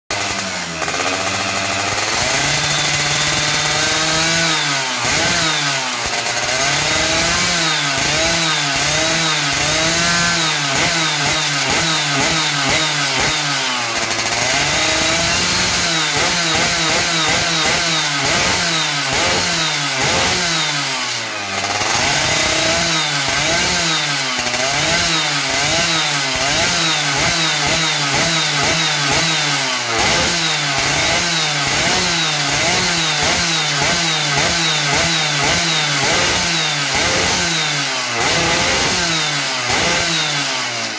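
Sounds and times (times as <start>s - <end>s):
two-stroke engine revving: 0.0s - 40.9s.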